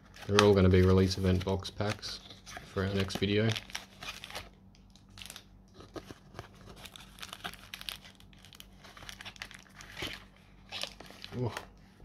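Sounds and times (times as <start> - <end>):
cardboard and foil crinkling: 0.0 - 11.7.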